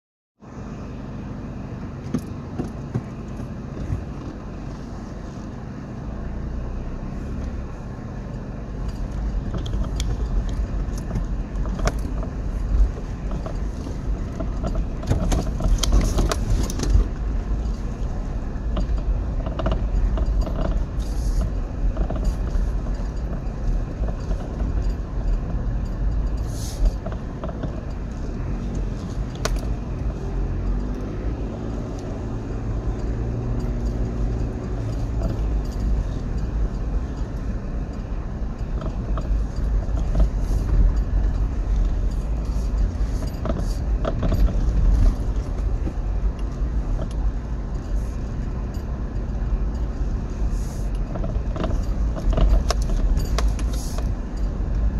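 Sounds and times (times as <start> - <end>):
engine and road rumble: 0.4 - 54.9
vehicle knocks and rattles: 1.9 - 5.3, 6.7 - 54.9.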